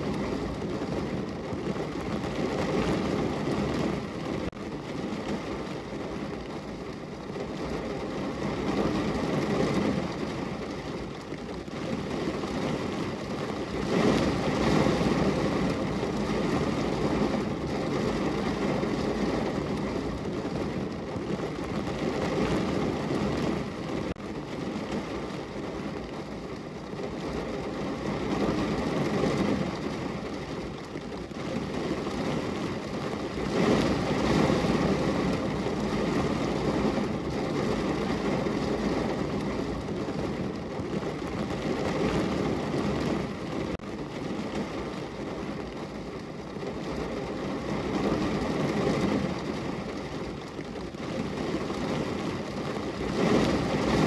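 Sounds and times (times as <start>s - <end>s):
rain against a window: 0.0s - 54.0s.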